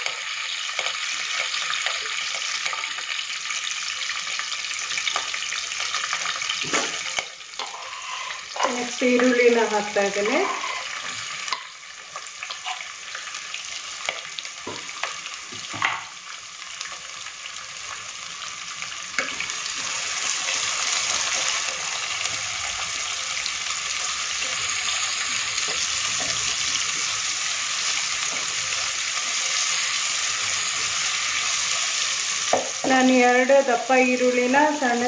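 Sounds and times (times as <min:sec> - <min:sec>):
onions sizzling in hot oil: 0:00.0 - 0:35.0.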